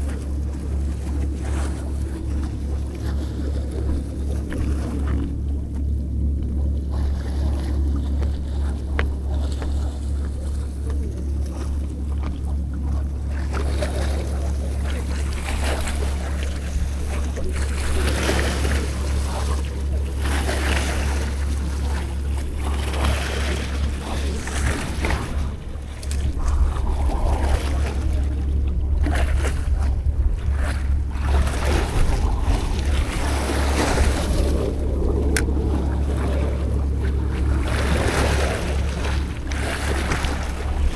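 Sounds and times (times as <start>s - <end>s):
waves breaking against seawall: 0.0s - 40.9s
wind rumble on microphone: 0.0s - 40.9s.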